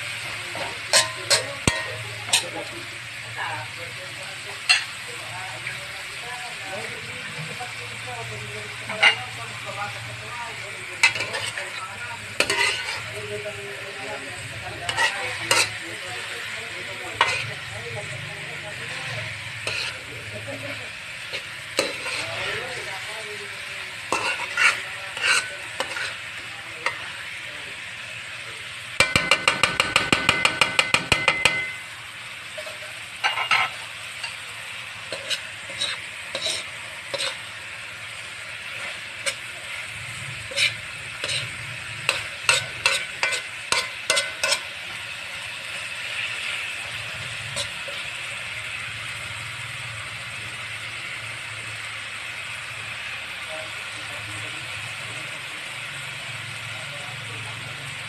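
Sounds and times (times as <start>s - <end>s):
food sizzling: 0.0s - 58.0s
metal spoon scraping a wok: 0.1s - 3.2s, 4.1s - 5.8s, 8.6s - 50.9s.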